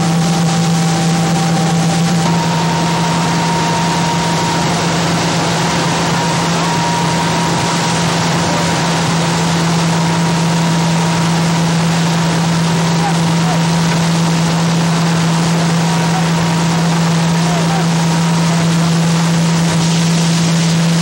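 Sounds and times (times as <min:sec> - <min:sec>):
fire engines and pumps running: 0:00.0 - 0:21.0.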